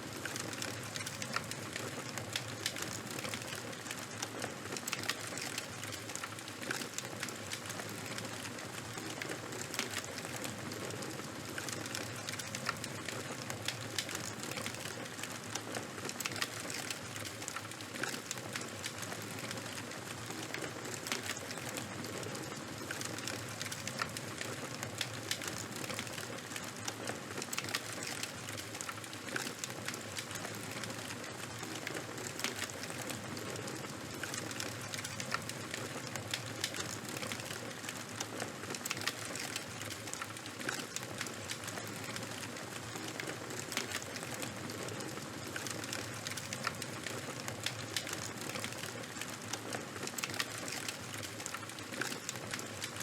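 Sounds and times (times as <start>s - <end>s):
charcoal and wood fire crackling: 0.0s - 53.0s.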